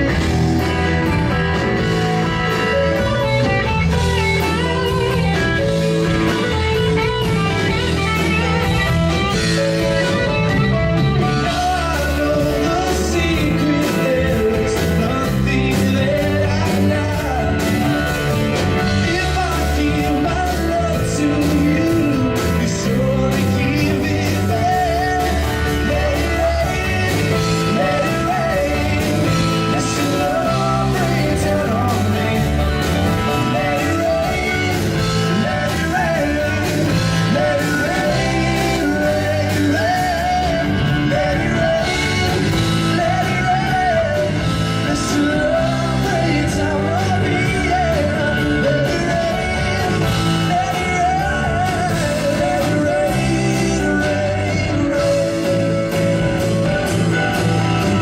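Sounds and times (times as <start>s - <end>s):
blues-rock band playing: 0.0s - 58.0s
electric guitar: 0.0s - 58.0s
person singing: 0.0s - 58.0s.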